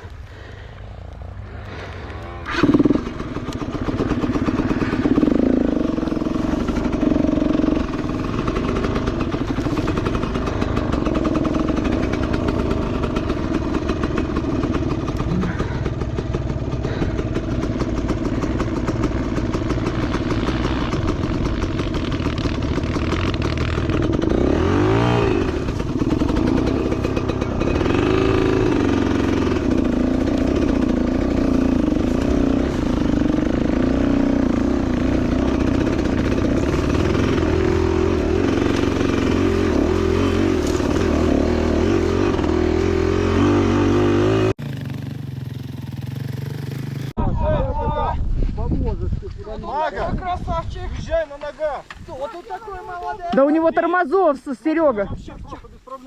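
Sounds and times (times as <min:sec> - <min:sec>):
motorcycle engine revving: 0:00.0 - 0:47.2.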